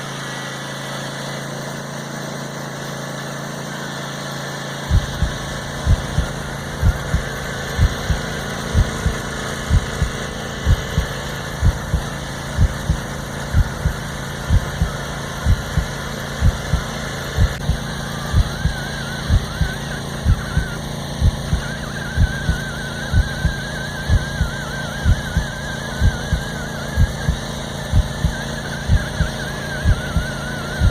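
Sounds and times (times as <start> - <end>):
garden tractor engine running: 0.0 - 30.9
warbling tone: 4.9 - 30.9.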